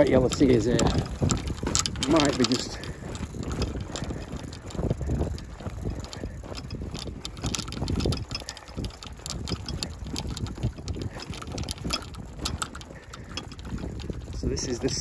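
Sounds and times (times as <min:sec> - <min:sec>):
light clicks and rustles: 0:00.0 - 0:15.0
wind buffeting microphone: 0:00.0 - 0:15.0.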